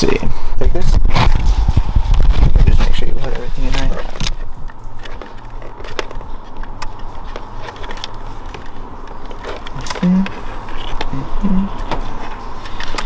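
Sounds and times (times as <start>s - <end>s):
steady low hum: 0.0s - 13.0s
cables rustling: 0.9s - 13.0s.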